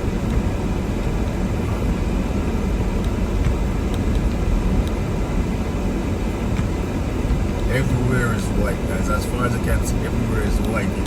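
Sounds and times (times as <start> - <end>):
pickup truck driving in snow: 0.0 - 11.0.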